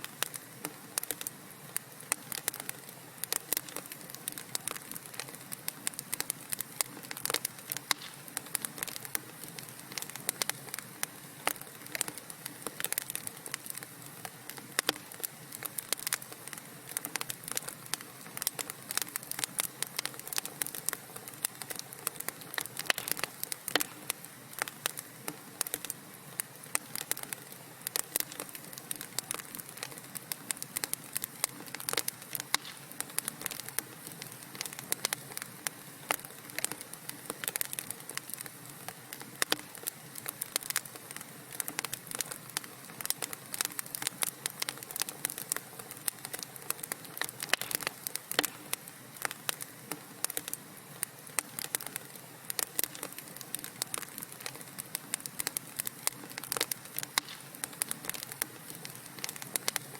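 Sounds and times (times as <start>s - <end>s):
faint steady hiss: 0.0s - 59.9s
wood fire crackling and popping: 0.0s - 59.9s.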